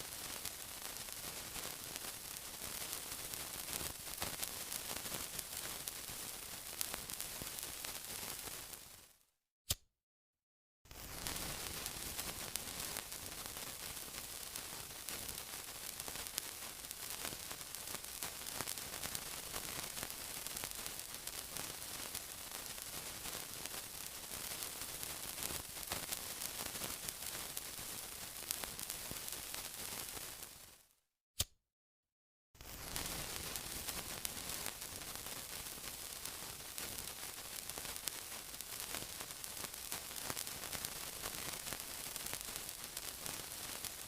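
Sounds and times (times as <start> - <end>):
sizzling hiss: 0.0 - 9.1, 10.9 - 30.8, 32.6 - 44.0
small crackles and pops: 0.0 - 9.8, 10.9 - 30.9, 32.6 - 44.0.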